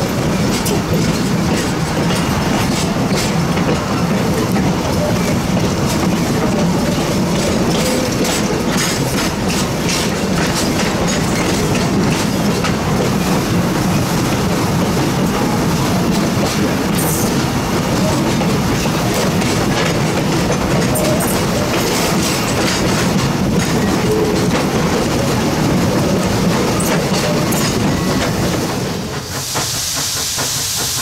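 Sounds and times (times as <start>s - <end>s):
wheels clicking over rail joints: 0.0s - 29.3s
train wheels rumbling on rails: 0.0s - 31.0s.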